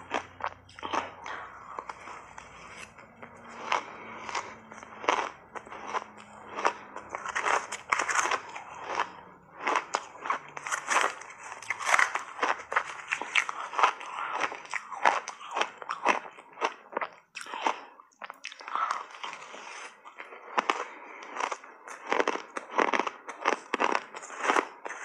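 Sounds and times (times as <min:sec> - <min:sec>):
ice crunching while chewed: 0:00.0 - 0:25.0.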